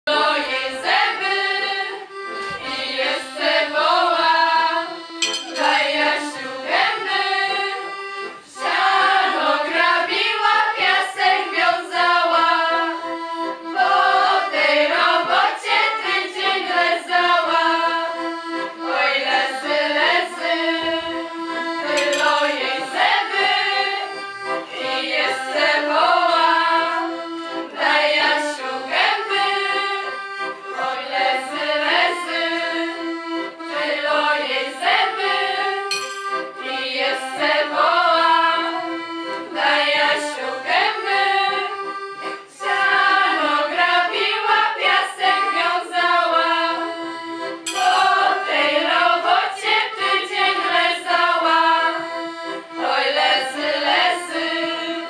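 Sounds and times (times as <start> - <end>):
group of voices singing: 0.1 - 55.0
held instrumental notes: 0.2 - 55.0.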